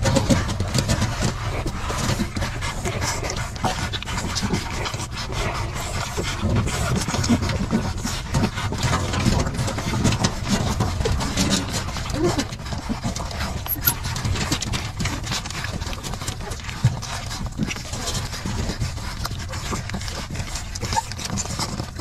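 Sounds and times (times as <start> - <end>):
puppies suckling and snuffling: 0.0 - 22.0.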